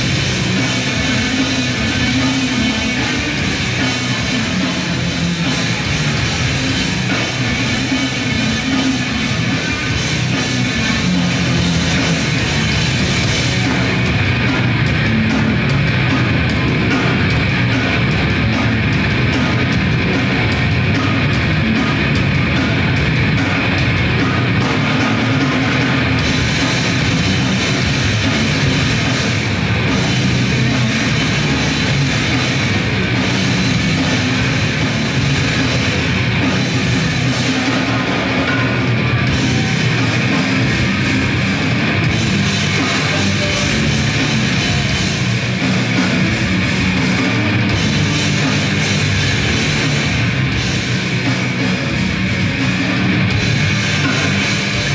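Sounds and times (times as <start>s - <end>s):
grindcore band playing live: 0.0s - 54.9s
rapid cymbal and drum hits: 0.0s - 54.9s.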